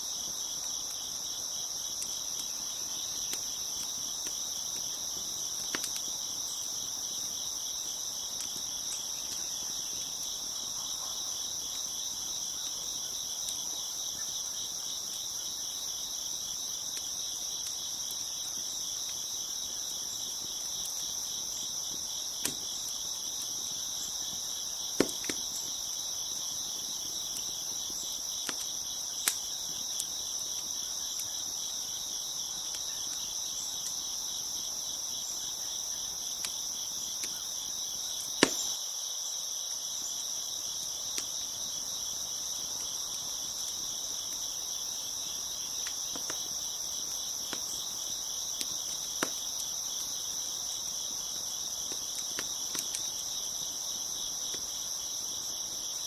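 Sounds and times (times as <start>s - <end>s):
wood fire popping and crackling: 0.0s - 38.8s, 40.6s - 56.0s
crickets chirping: 0.0s - 56.0s.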